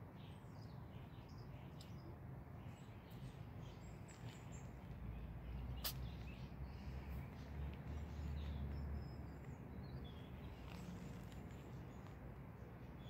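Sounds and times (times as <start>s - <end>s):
low outdoor rumble: 0.9s - 13.0s.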